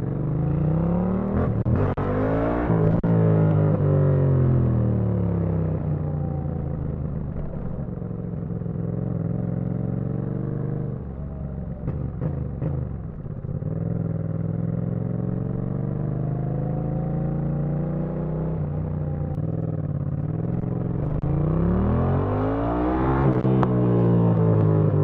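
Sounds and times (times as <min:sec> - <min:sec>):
motorcycle engine revving: 0:00.0 - 0:05.5, 0:08.6 - 0:25.0.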